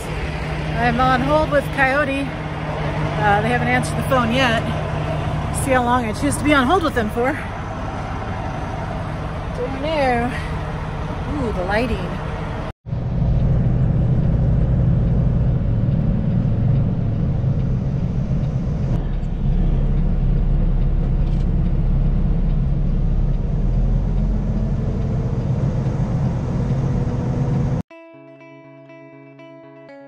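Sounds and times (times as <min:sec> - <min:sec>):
diesel truck engine running: 0:00.0 - 0:27.8
faint rising tone: 0:00.0 - 0:27.8
road rumble: 0:00.0 - 0:27.8.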